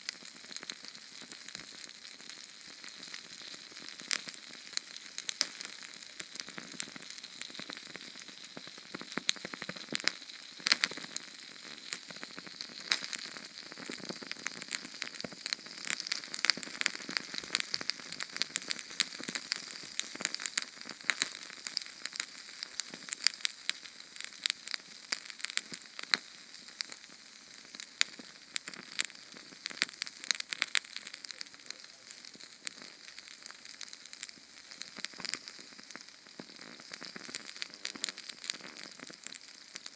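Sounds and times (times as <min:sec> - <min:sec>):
canned fuel flame crackling: 0:00.0 - 0:39.9.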